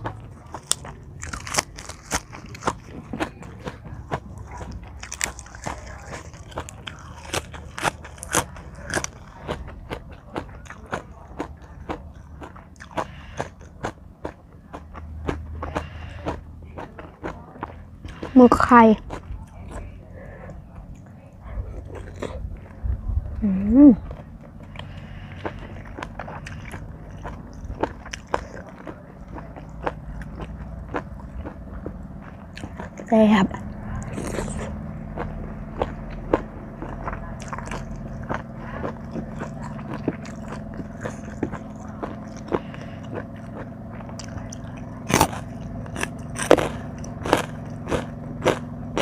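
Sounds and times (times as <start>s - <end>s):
person chewing crunchy food: 0.0s - 22.8s, 23.7s - 49.0s
steady low hum: 0.0s - 49.0s.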